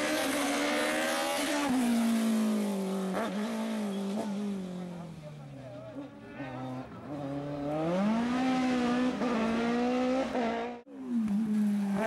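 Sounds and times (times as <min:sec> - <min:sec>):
race engine at high revs: 0:00.0 - 0:05.1, 0:07.0 - 0:12.0.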